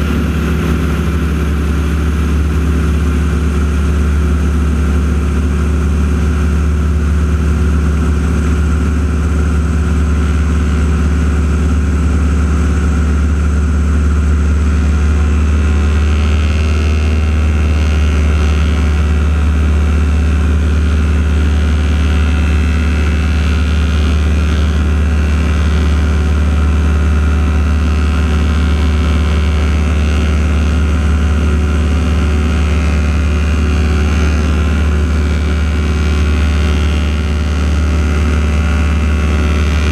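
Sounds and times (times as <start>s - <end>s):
propeller aircraft engines wavering: 0.0s - 39.9s
steady low hum: 0.0s - 39.9s.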